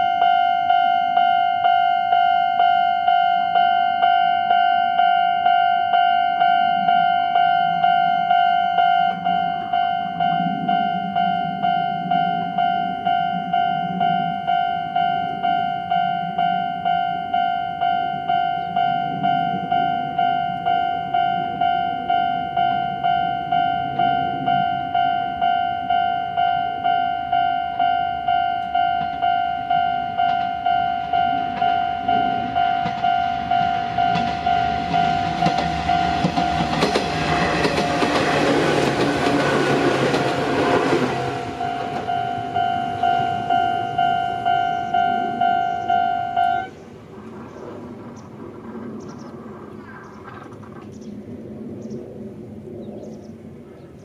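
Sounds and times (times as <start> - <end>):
level crossing alarm dinging: 0.0 - 46.8
electric train rushing past: 0.0 - 54.0.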